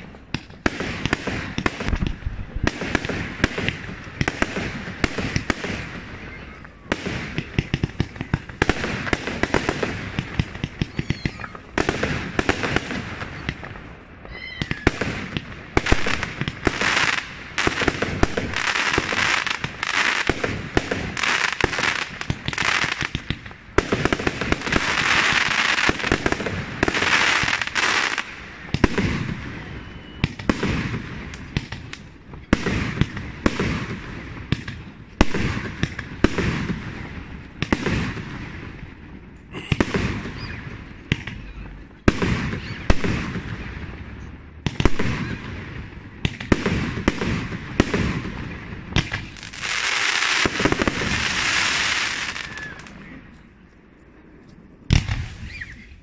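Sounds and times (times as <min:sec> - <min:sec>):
fireworks bangs: 0:00.0 - 0:53.5, 0:54.3 - 0:56.0
fireworks crackling: 0:00.0 - 0:56.0.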